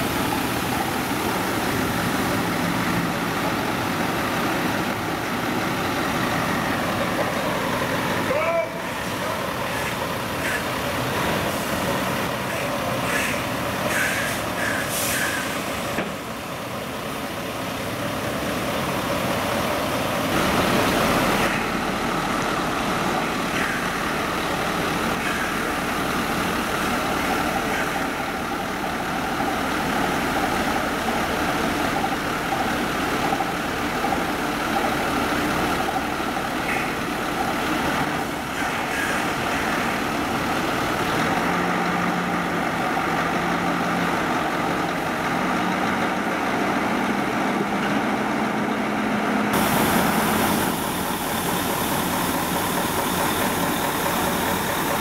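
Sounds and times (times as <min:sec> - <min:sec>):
low engine drone: 0:00.0 - 0:55.0
truck diesel engine running: 0:00.0 - 0:55.0.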